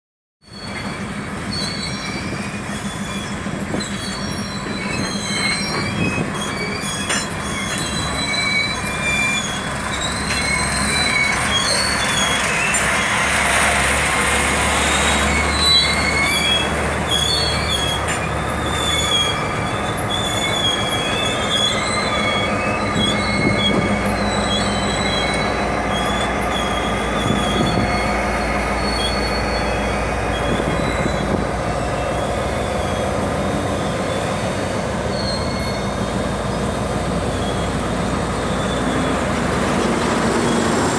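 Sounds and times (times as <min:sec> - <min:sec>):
wheels squealing on rail: 0:00.4 - 0:40.9
diesel locomotive engine running: 0:00.5 - 0:40.9.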